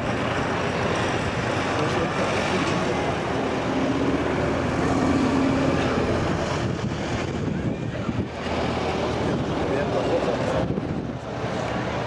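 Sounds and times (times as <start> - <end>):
airplane engines flying overhead: 0.0 - 12.0
wind buffeting microphone: 0.0 - 12.0.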